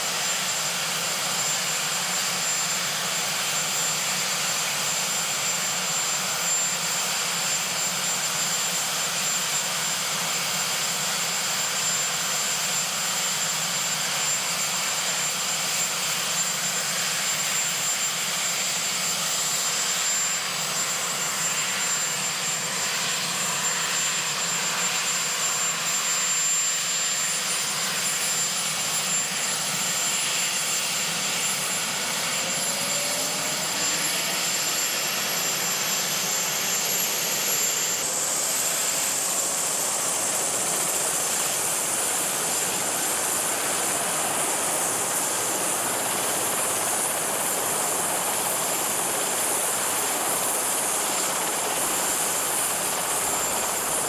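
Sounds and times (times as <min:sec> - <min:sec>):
helicopter rotor and engine noise: 0:00.0 - 0:54.0
high turbine whine: 0:00.0 - 0:54.0.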